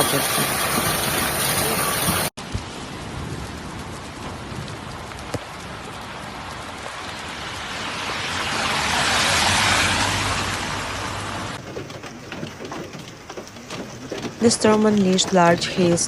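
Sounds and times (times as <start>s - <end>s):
hailstones ticking: 0.0s - 8.8s, 11.6s - 16.0s
hail and rain hissing: 0.0s - 16.0s.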